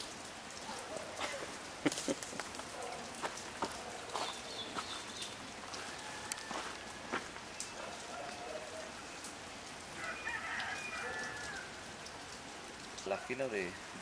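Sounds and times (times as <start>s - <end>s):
water dripping into a pool: 0.0s - 14.0s.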